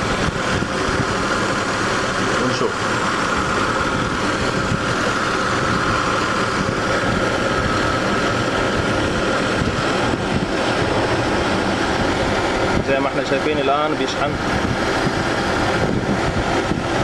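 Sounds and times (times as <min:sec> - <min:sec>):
car engine idling: 0:00.0 - 0:17.0
higher-pitched hum: 0:00.0 - 0:17.0.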